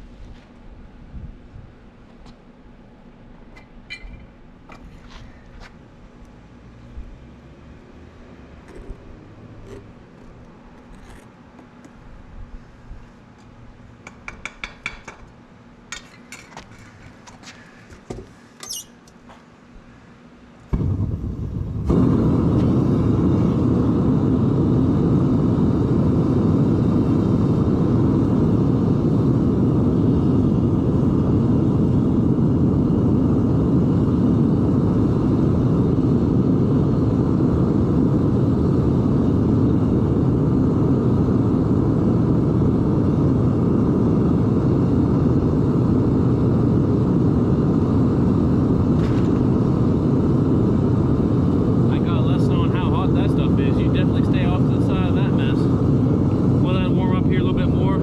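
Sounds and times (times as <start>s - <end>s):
gas burner roaring: 0.0s - 58.0s.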